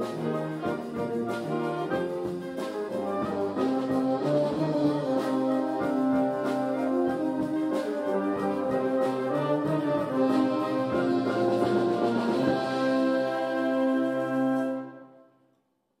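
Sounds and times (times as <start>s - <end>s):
drum strokes: 0.0s - 14.6s
wind band playing: 0.0s - 15.4s.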